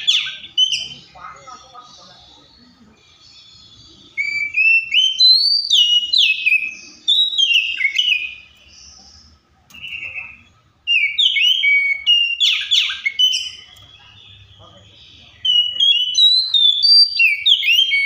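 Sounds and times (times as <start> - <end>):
bird singing whistled phrases: 0.0 - 2.0, 3.3 - 8.7, 9.7 - 18.0.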